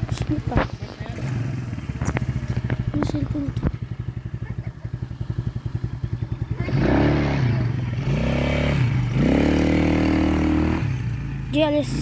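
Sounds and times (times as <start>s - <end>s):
atv engine idling and revving: 0.0s - 12.0s.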